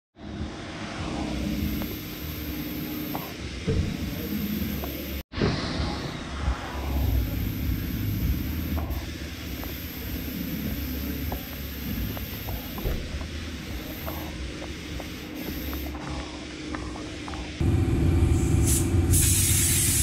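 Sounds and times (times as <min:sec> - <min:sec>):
low machinery hum: 0:00.2 - 0:20.0.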